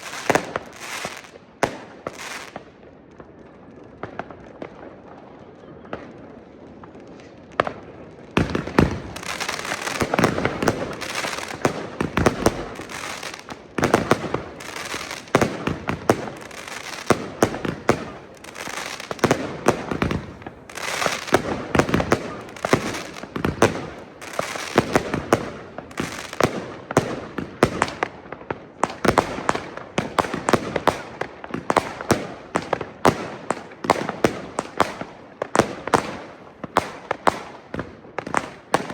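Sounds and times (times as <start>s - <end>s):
scattered firework pops: 0.0s - 2.8s, 6.9s - 38.9s
fireworks bangs and crackling: 0.0s - 38.9s.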